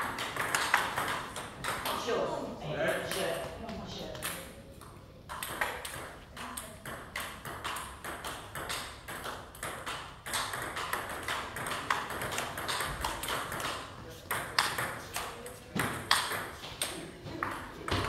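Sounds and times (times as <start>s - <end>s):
table tennis balls bouncing: 0.0s - 2.2s, 2.9s - 18.0s.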